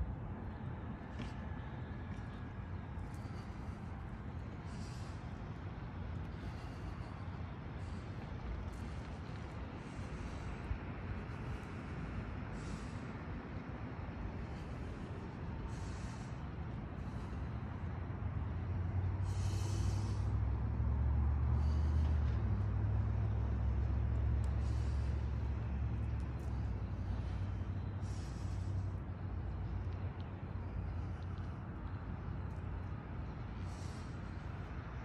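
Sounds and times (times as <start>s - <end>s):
man's hissing breaths: 0.8s - 35.0s.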